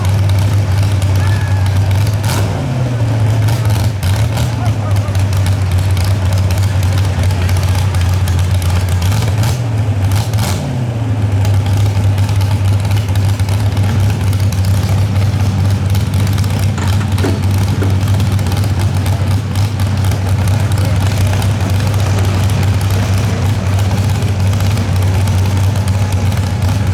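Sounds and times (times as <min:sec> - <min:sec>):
truck engine running: 0:00.0 - 0:26.9.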